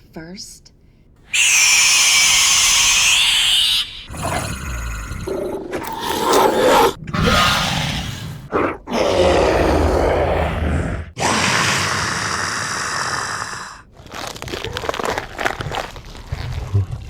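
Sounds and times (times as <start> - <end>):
beast growls and snarls: 1.6 - 17.0.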